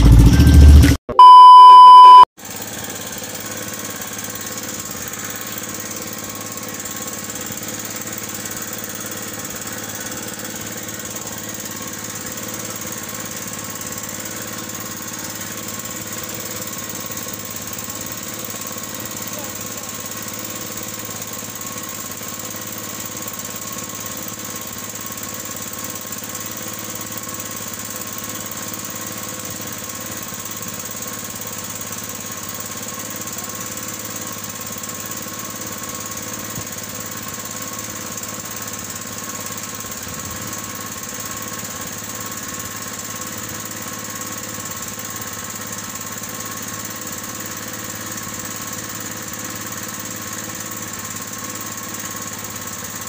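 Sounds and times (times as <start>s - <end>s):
small boat engine running: 2.4s - 53.0s.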